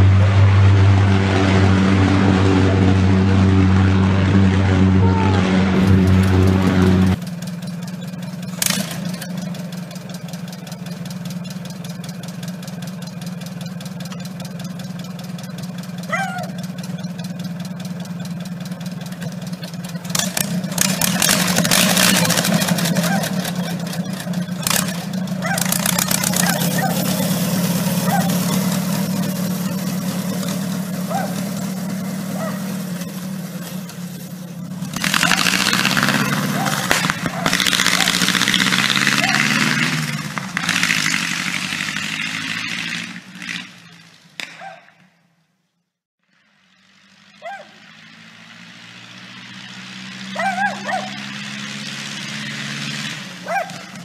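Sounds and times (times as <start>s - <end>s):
dragster engine running: 0.0s - 44.4s, 46.2s - 54.0s.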